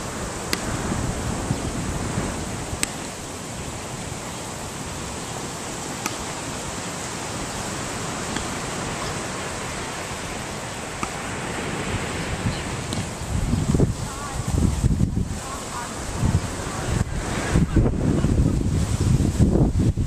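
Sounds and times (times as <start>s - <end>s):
ocean surf: 0.0s - 20.0s
wind: 0.0s - 20.0s.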